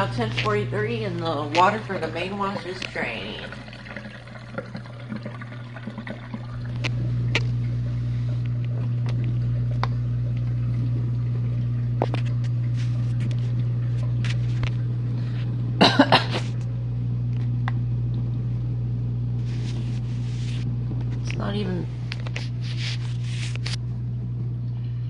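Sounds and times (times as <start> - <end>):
dishwasher pump motor humming: 0.0 - 25.0.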